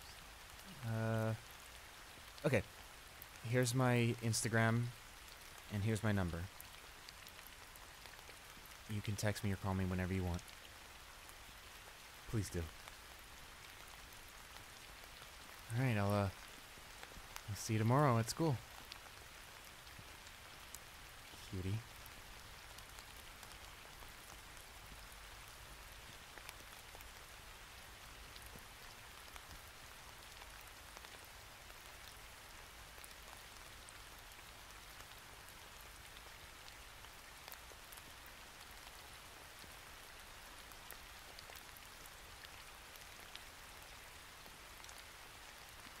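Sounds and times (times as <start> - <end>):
soft rain hiss: 0.0 - 46.0.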